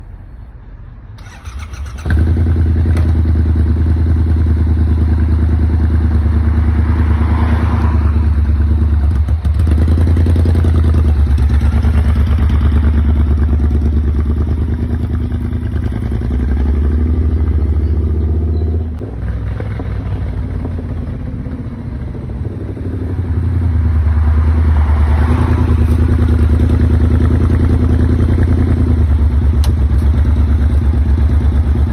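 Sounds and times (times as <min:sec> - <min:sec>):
motorcycle engine running: 0:01.2 - 0:07.4, 0:08.1 - 0:24.1, 0:25.4 - 0:31.9.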